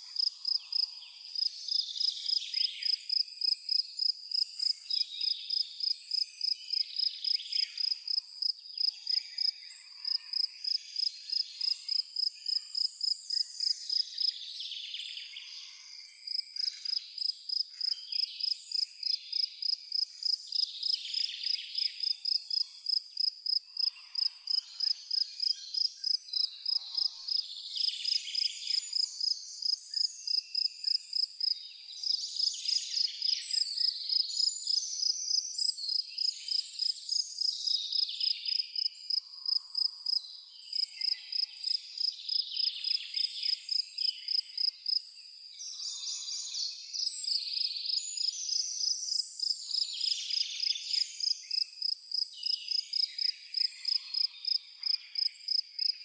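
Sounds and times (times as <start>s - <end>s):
cricket chirping: 0.0s - 14.3s, 15.6s - 56.0s
songbirds singing: 0.0s - 56.0s.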